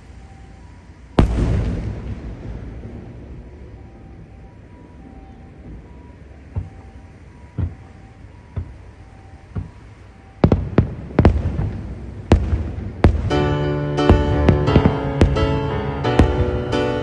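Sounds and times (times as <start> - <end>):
loud sharp firework bangs: 1.2 - 4.4, 5.0 - 17.0
faint firework booms: 1.2 - 17.0.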